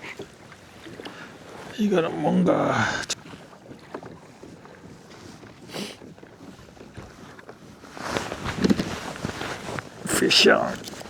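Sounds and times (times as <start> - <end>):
water sloshing against kayak hull: 0.0 - 11.0.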